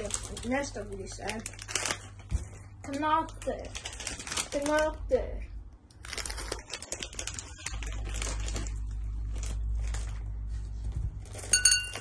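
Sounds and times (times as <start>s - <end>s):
candy bag clicks and rustles: 0.0s - 5.2s, 5.9s - 10.4s.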